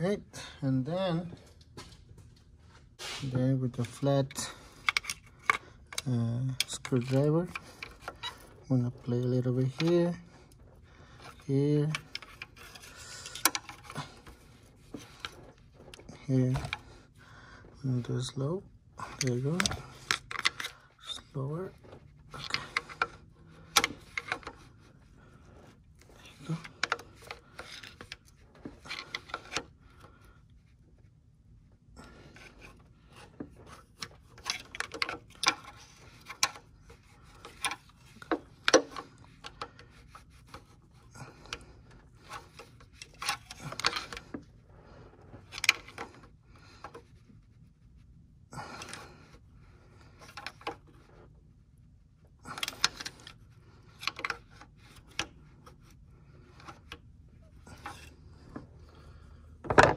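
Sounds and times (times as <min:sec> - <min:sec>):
rubbing and scraping on hose: 0:03.0 - 0:59.6.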